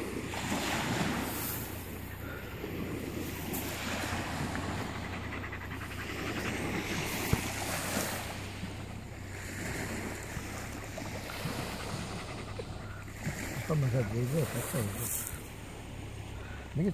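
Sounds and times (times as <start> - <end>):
waves washing on pebble shore: 0.0 - 16.9.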